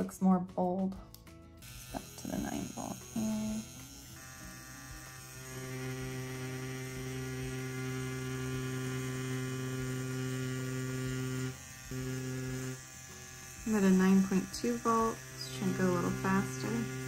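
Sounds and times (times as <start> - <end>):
tattoo pen buzzing: 1.0 - 17.0.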